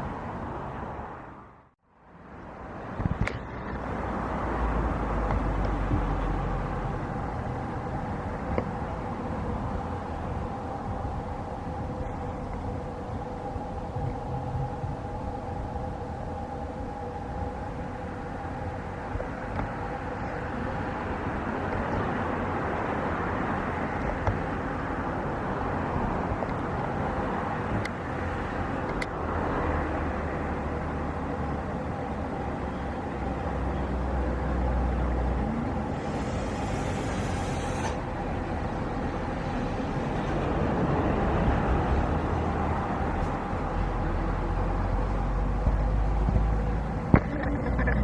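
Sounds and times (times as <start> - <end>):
two-tone engine whine: 1.3 - 48.0.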